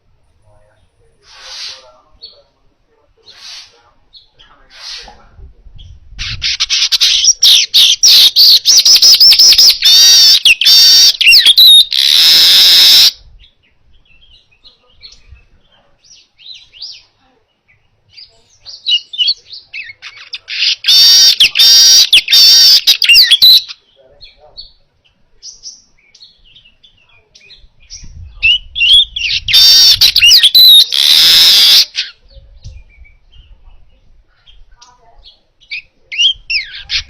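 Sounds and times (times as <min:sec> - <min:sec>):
weaver bird singing: 0:05.8 - 0:37.0.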